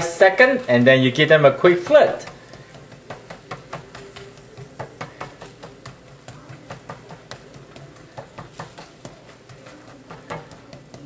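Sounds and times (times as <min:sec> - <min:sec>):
pancake crackling and popping in oil: 0:01.2 - 0:11.0.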